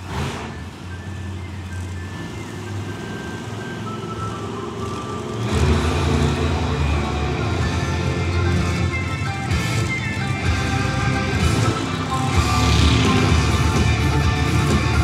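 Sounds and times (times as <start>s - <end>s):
truck engine revving: 0.0s - 15.0s
music playing: 0.8s - 15.0s.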